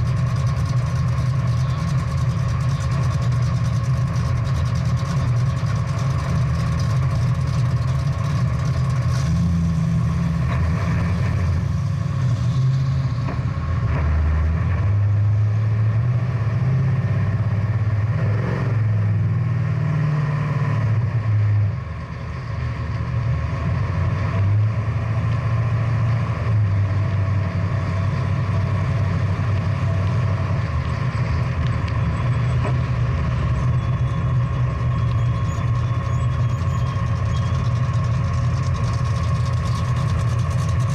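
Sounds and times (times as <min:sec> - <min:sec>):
muscle car engine running: 0:00.0 - 0:40.9.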